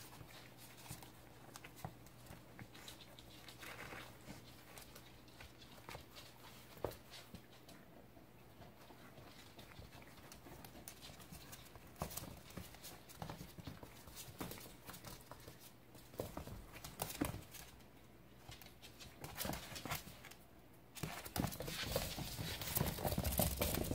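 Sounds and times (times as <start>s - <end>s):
puppy paws clicking on wooden floor: 0.0s - 23.9s.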